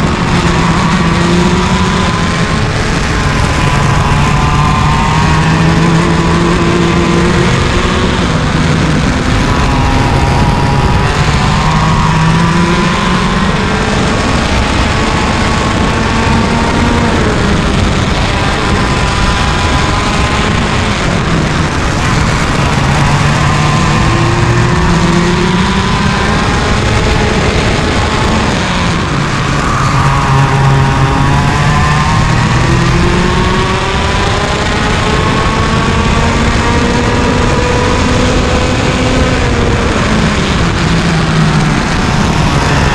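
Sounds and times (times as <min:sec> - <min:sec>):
kart engine at racing speed: 0:00.0 - 0:42.9.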